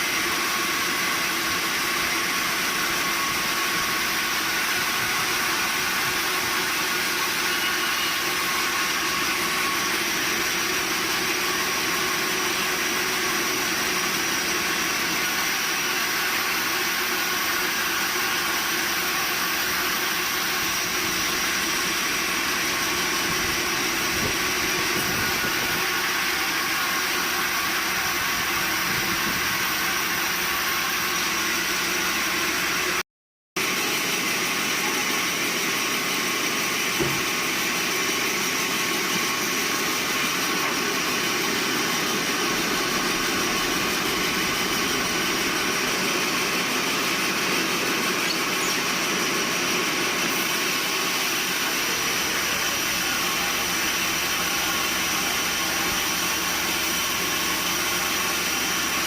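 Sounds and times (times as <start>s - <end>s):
sawmill machinery running: 0.0s - 33.0s, 33.6s - 59.0s.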